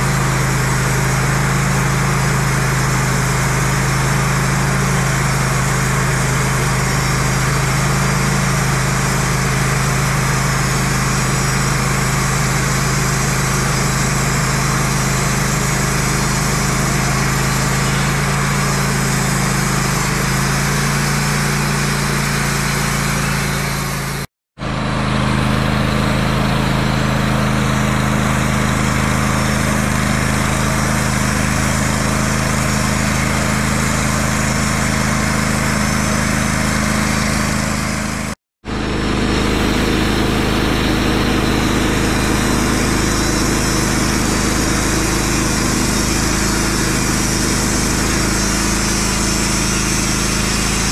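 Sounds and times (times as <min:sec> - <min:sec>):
band sawmill engine running: 0:00.0 - 0:50.9.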